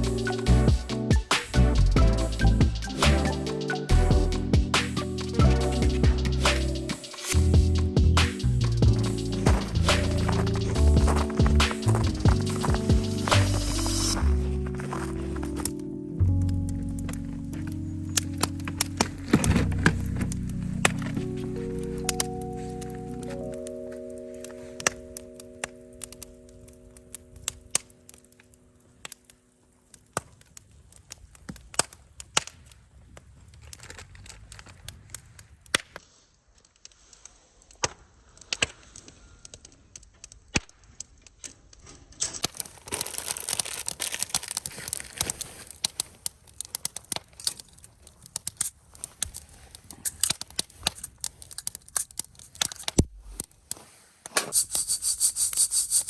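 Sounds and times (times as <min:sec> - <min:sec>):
campfire crackling snaps: 0:03.0 - 0:41.6, 0:42.4 - 0:56.0.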